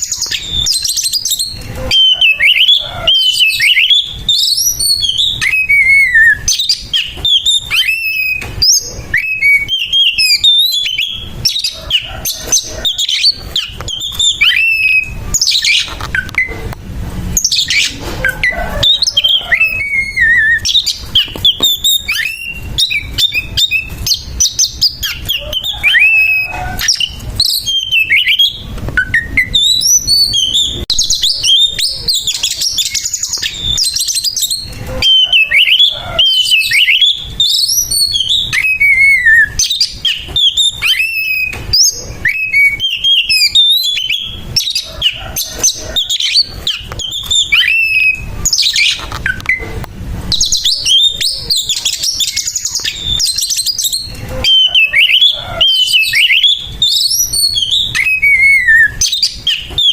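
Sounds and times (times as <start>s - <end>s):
songbird singing varied whistles: 0.0s - 16.6s, 17.4s - 59.9s.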